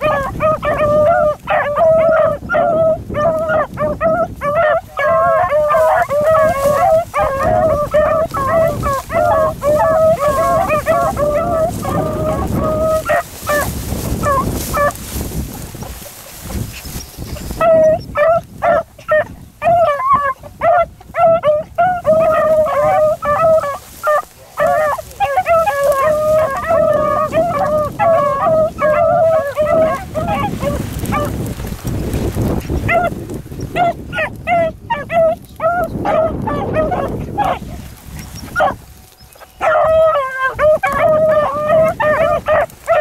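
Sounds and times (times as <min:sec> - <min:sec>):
hounds baying: 0:00.0 - 0:43.0.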